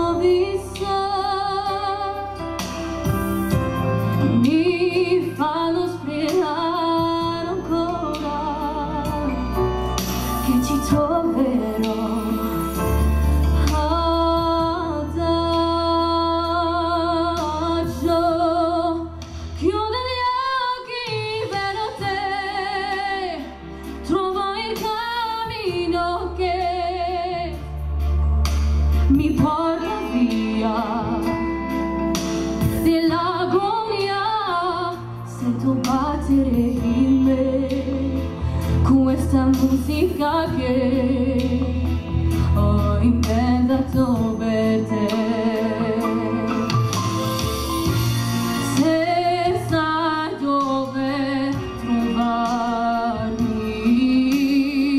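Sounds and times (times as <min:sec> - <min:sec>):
woman singing into a microphone: 0:00.0 - 0:28.0, 0:29.0 - 0:47.1, 0:48.6 - 0:54.9
instrumental accompaniment with bass: 0:00.0 - 0:54.9.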